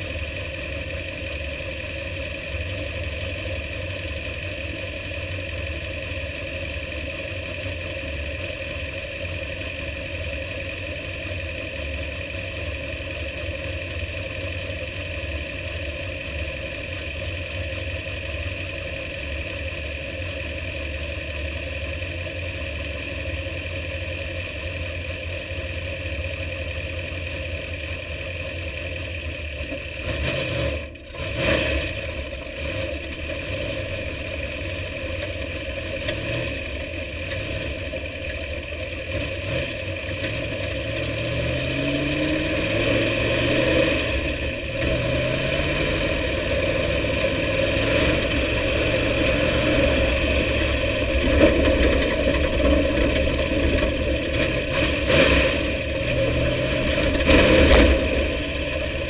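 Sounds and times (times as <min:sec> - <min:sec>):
race car engine rumbling: 0:00.0 - 0:59.0.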